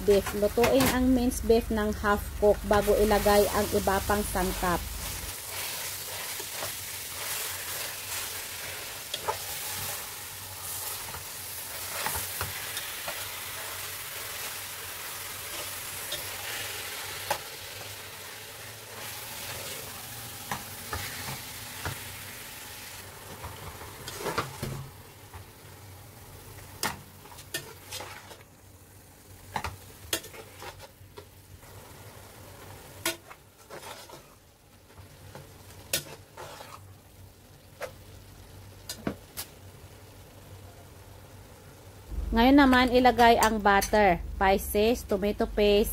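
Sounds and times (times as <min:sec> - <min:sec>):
meat sizzling in a pot: 0:00.0 - 0:45.9.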